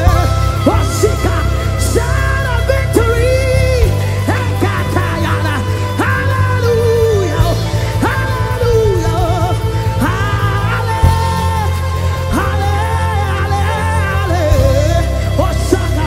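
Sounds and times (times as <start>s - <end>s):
gospel praise music: 0.0s - 16.0s.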